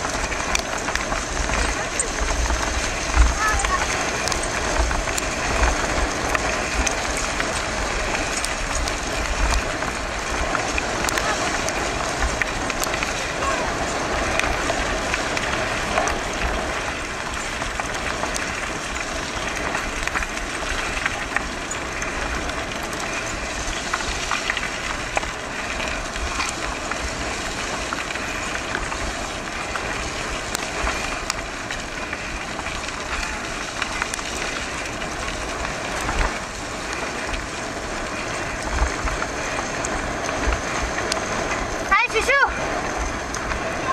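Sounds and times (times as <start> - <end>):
wind on microphone: 0.0 - 41.9
bike tyres rolling on gravel: 0.0 - 43.9.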